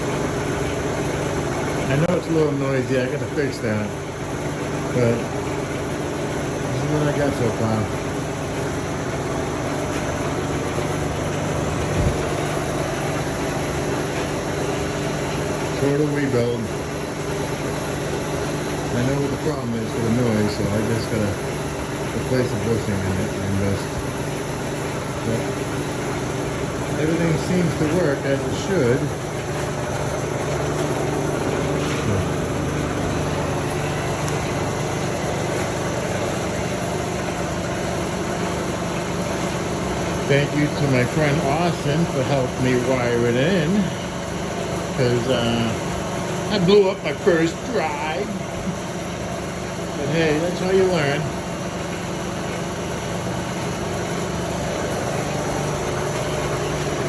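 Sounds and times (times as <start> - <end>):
milling machine humming: 0.0 - 57.0.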